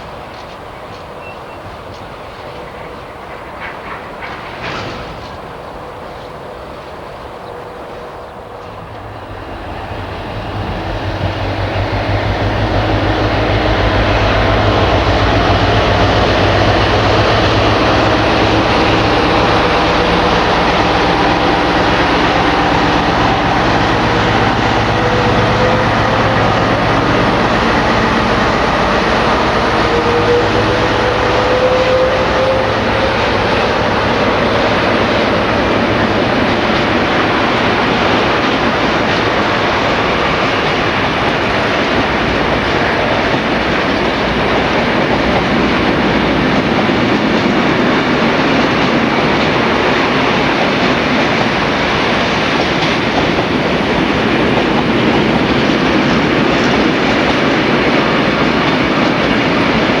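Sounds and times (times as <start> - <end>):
freight train wheels clattering: 0.0 - 60.0.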